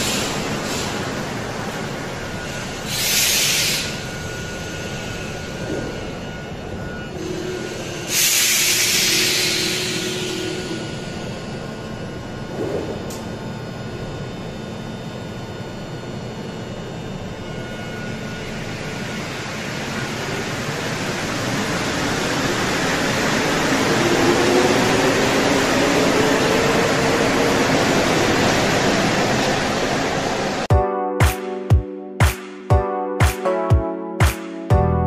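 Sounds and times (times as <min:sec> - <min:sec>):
train running noise: 0:00.0 - 0:30.7
train whine rising in pitch: 0:00.0 - 0:30.7.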